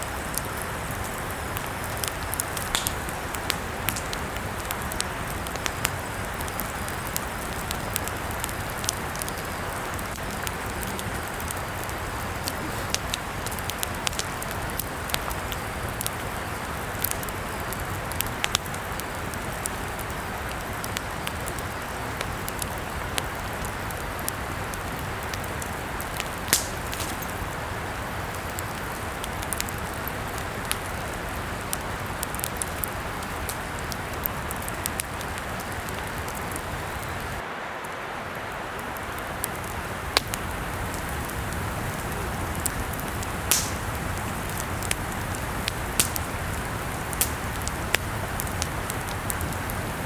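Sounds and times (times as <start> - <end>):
burning wood crackling and popping: 0.0 - 50.0
campfire hissing: 0.0 - 50.0.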